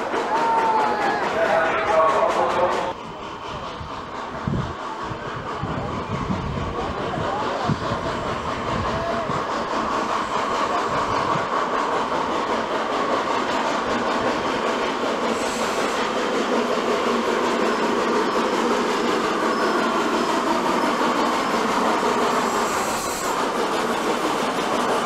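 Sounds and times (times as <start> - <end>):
steam locomotive running past: 0.0 - 25.0.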